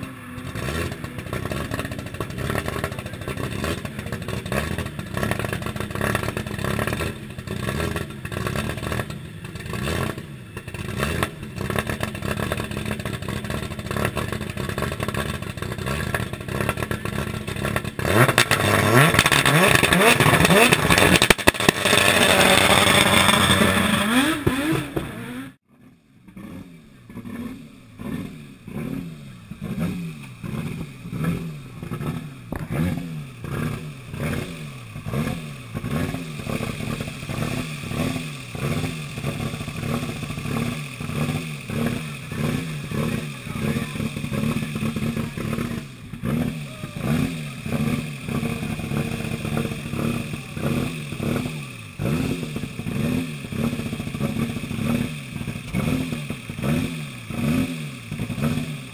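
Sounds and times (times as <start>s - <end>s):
engine blipping: 0.0s - 58.9s
rally car engine at high revs: 0.0s - 58.9s.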